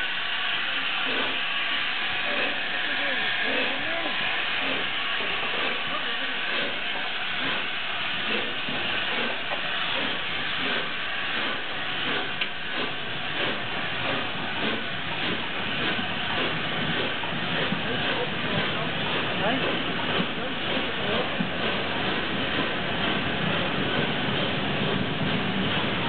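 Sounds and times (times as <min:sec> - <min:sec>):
loud hiss of steam: 0:00.0 - 0:26.0
steam locomotive pulling away: 0:00.0 - 0:26.0.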